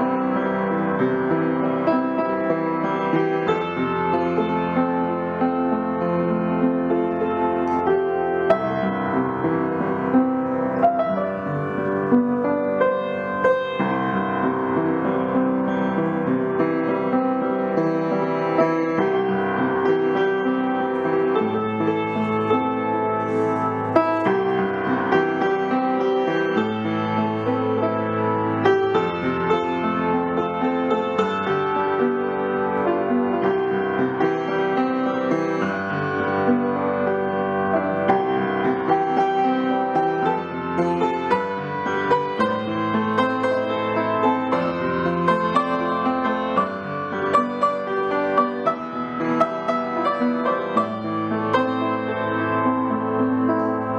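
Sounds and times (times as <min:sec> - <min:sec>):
slow piano melody: 0:00.0 - 0:53.9.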